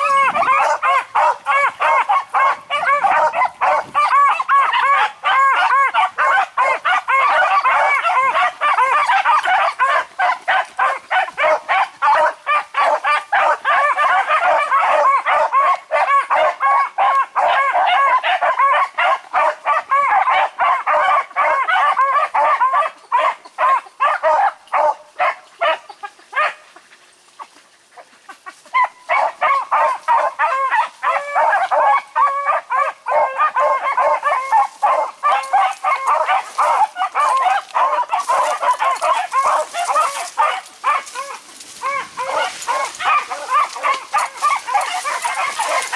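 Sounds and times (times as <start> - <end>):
dogs baying: 0.0 - 45.9.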